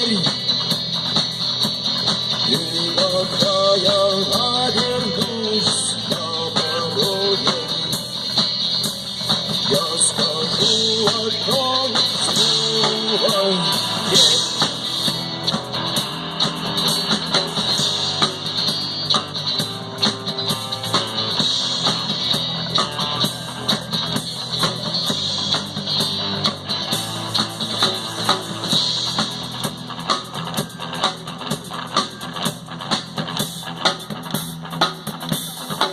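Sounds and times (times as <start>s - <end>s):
rock guitar playing: 0.0s - 35.9s
steady drum beat: 0.0s - 35.9s.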